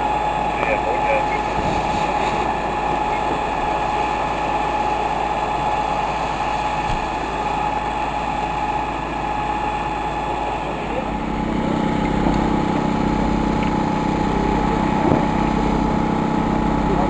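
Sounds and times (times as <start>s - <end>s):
fire engine pump running: 0.0s - 17.0s.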